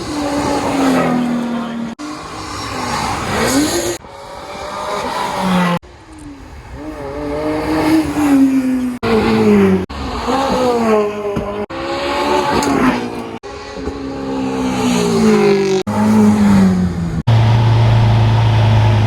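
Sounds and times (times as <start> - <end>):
supercar engines revving: 0.0 - 19.0.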